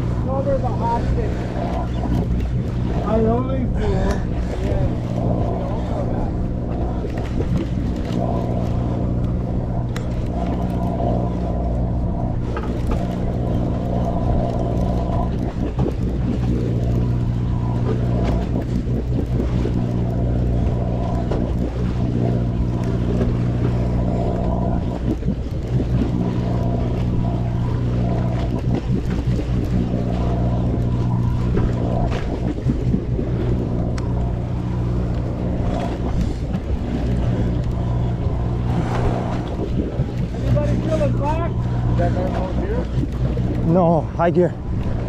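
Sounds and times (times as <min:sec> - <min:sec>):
boat engine humming: 0:00.0 - 0:45.0.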